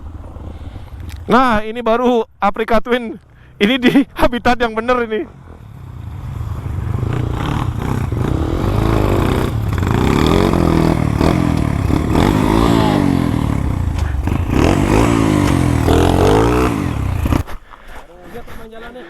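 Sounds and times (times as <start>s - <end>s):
motorcycle engine revving: 0.0s - 1.5s, 4.8s - 19.0s.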